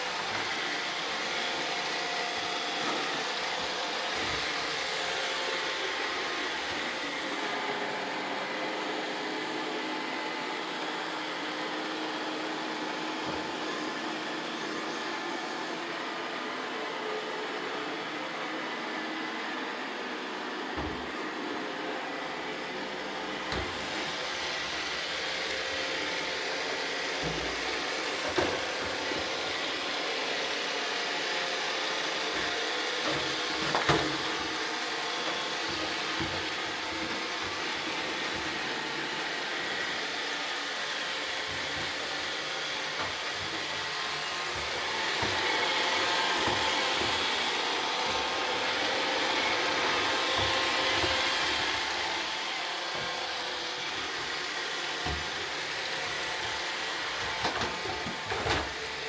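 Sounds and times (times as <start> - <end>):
robot vacuums running: 0.0 - 59.0.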